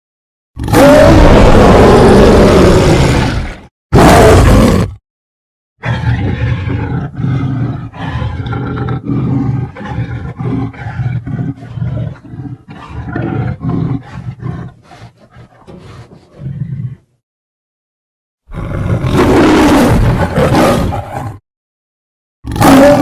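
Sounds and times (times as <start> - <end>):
cartoon lion roars: 0.6 - 5.0, 5.8 - 17.2, 18.5 - 21.4, 22.4 - 23.0.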